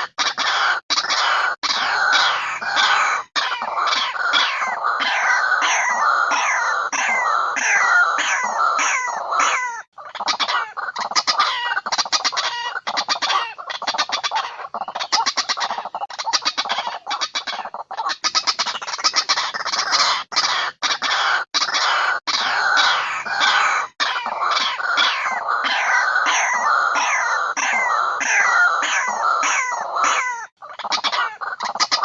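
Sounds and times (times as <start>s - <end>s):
waterhen calling: 0.0s - 32.0s.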